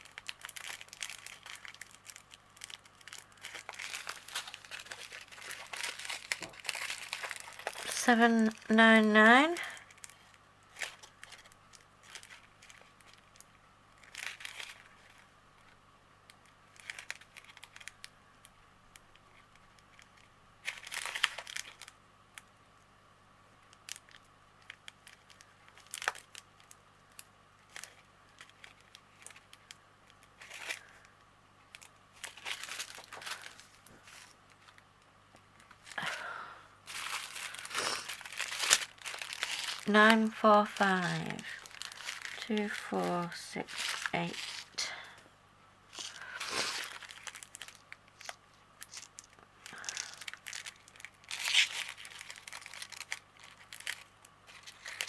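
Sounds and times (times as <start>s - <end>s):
plastic packets crinkling: 0.0s - 22.5s, 23.6s - 45.2s, 45.9s - 55.0s
faint steady hum: 0.0s - 55.0s.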